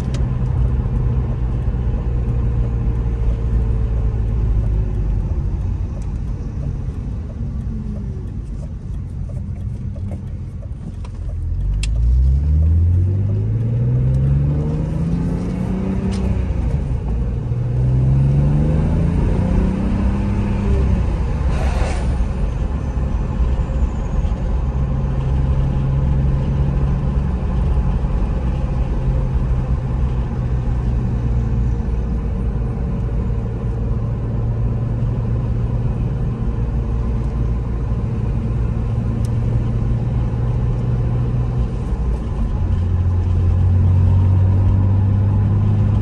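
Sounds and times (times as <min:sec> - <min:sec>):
car engine from inside cabin: 0:00.0 - 0:46.0
tyre and road noise: 0:00.0 - 0:46.0.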